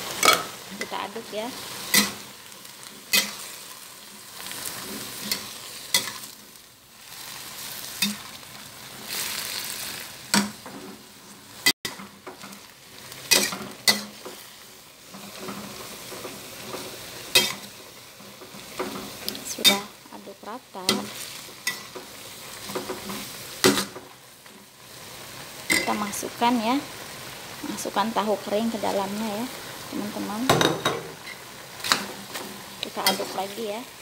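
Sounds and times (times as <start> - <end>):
spatula scraping and knocking wok: 0.0 - 26.5, 30.0 - 34.0
greens sizzling in a wok: 0.0 - 34.0.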